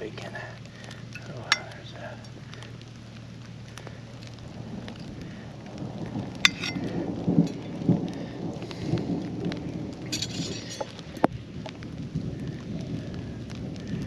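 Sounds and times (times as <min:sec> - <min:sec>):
low rumbles: 0:00.0 - 0:14.0
steady rain falling: 0:00.0 - 0:14.0.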